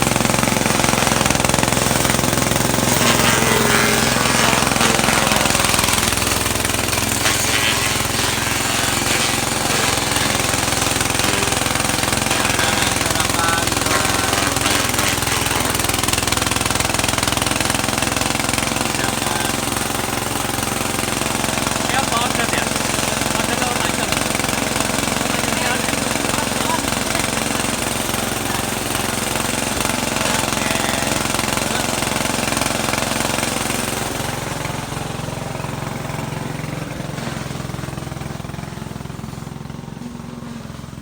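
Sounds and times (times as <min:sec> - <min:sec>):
machine running with loud rattle: 0:00.0 - 0:41.0.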